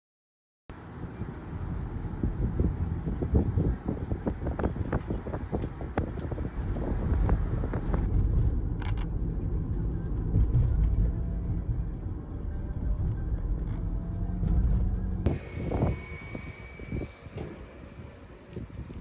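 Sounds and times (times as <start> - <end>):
car driving rumble: 0.8 - 19.0.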